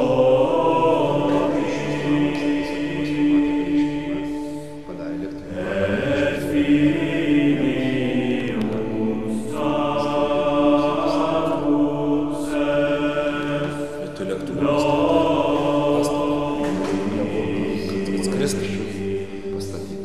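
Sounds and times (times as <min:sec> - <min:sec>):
slow choral chant: 0:00.0 - 0:20.0.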